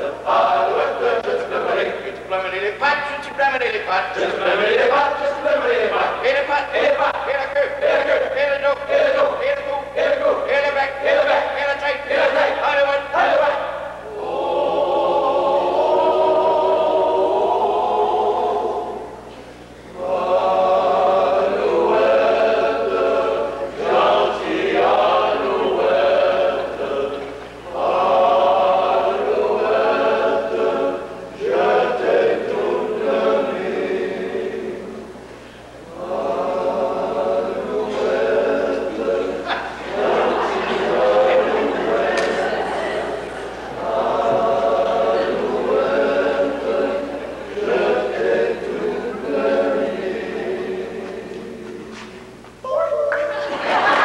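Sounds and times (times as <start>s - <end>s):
men's chorus singing: 0.0s - 2.6s, 3.6s - 19.2s, 19.9s - 35.2s, 35.9s - 52.2s.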